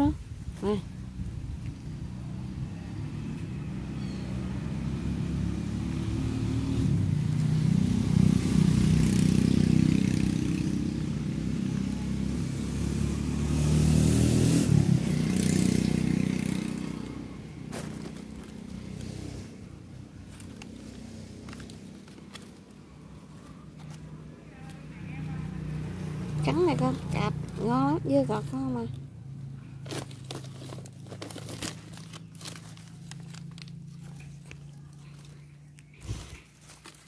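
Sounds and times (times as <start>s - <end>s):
motor vehicle engine passing: 0.6s - 37.0s.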